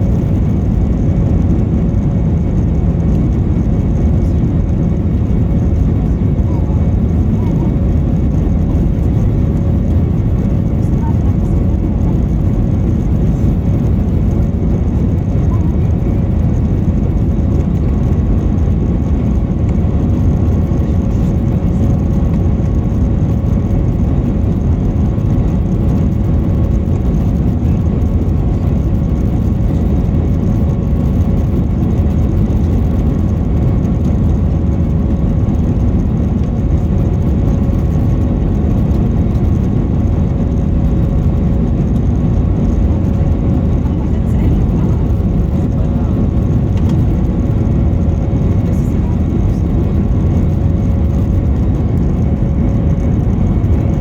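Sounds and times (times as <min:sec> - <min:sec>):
airplane cabin engine rush: 0:00.0 - 0:54.0.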